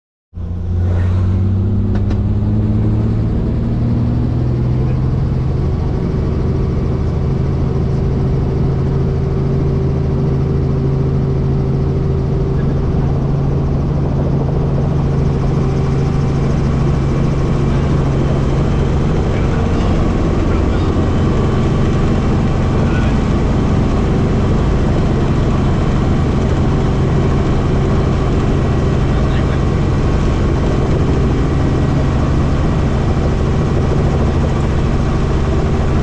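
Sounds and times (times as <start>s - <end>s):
helicopter droning: 0.4s - 36.0s.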